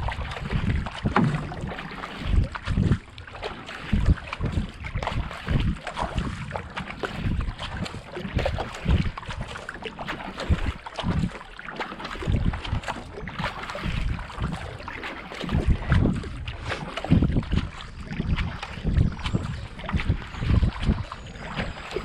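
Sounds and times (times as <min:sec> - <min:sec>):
wind buffeting microphone: 0:00.0 - 0:11.4, 0:12.1 - 0:22.0
paddle splashing through water: 0:00.0 - 0:22.0.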